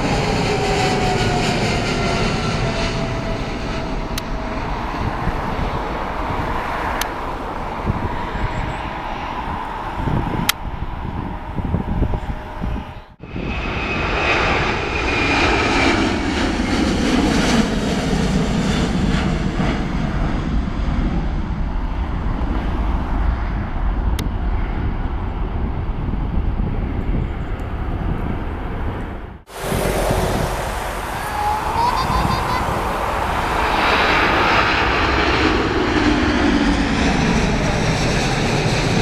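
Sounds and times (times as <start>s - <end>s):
jet airliner passing: 0.0s - 39.0s.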